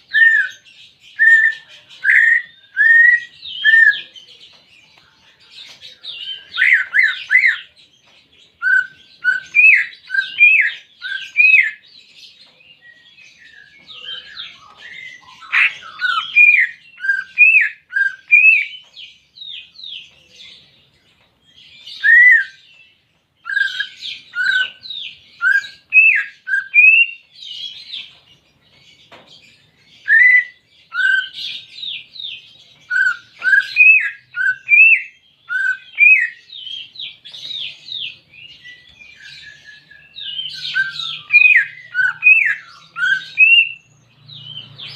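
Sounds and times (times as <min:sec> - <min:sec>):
bird singing whistles and twitters: 0:00.0 - 0:04.2, 0:05.5 - 0:20.7, 0:21.4 - 0:28.2, 0:29.5 - 0:44.9.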